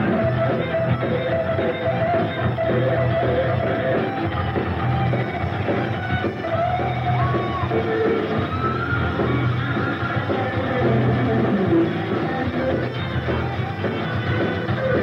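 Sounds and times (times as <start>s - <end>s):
bass: 0.0s - 15.0s
distorted electric guitar: 0.0s - 15.0s
drums pounding: 0.0s - 15.0s.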